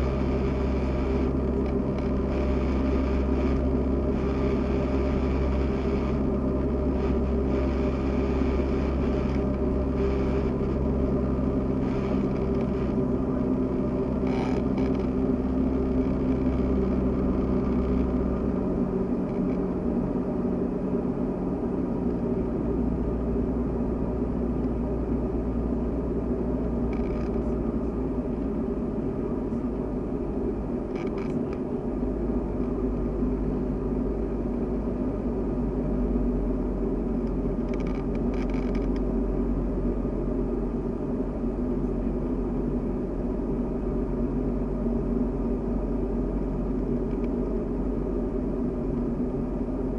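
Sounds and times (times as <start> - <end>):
airplane engine and propeller droning: 0.0 - 49.9.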